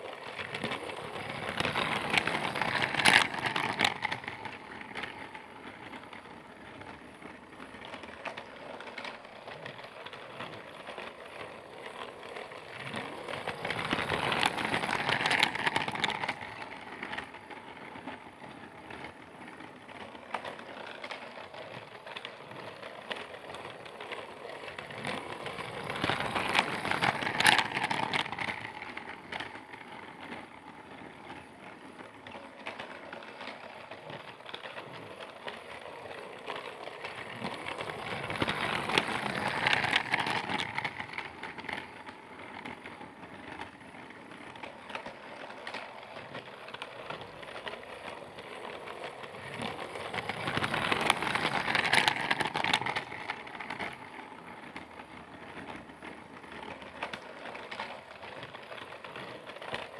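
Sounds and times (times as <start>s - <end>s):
toy train rattling: 0.0s - 59.9s.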